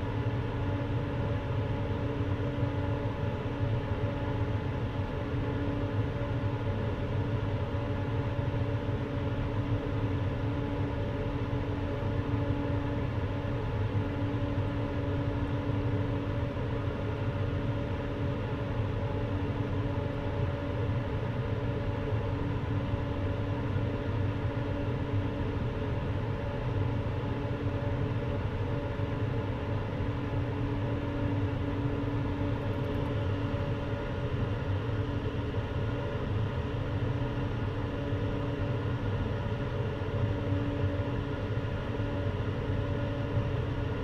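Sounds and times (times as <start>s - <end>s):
blower fan running: 0.0s - 44.0s.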